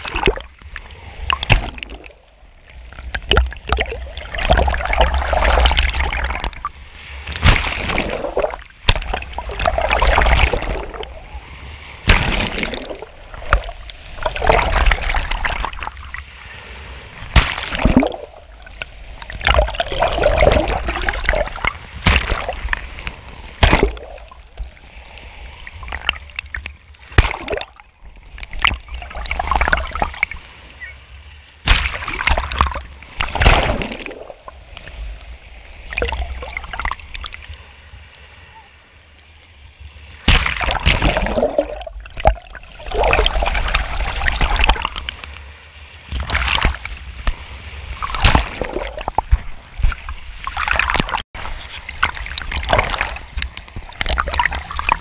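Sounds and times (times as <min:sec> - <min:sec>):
small waves splashing: 0:00.0 - 0:55.0.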